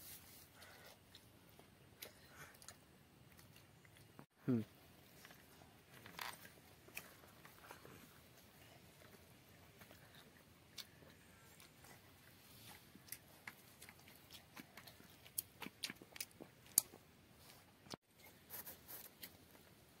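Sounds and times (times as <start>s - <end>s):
child chewing food: 0.1s - 20.0s.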